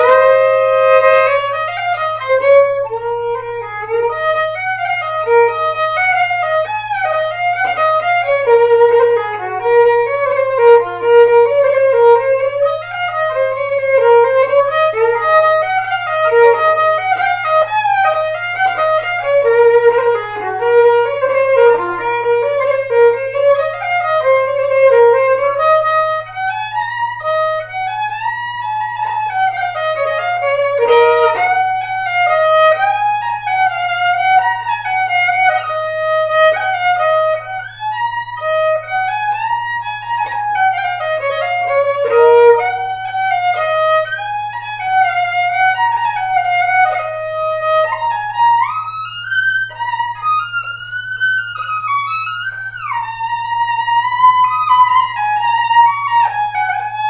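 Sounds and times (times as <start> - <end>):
solo fiddle waltz: 0.0 - 57.0.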